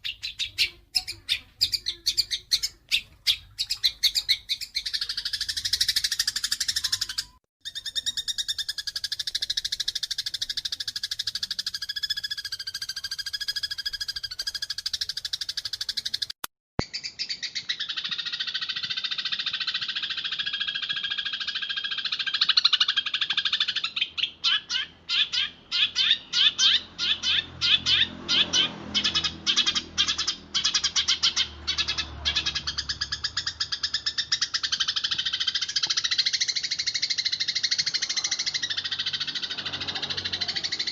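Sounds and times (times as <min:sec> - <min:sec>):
sparrows chirping agitated chatter: 0:00.0 - 0:40.9.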